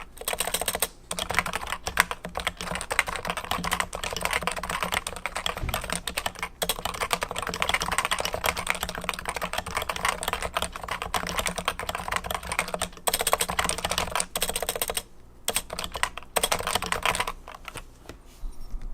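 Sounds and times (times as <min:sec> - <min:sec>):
fast keyboard typing: 0:00.0 - 0:17.8.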